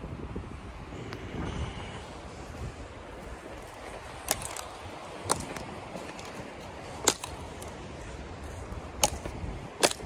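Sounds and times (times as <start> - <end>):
footsteps crunching on frozen snow: 1.1 - 10.0.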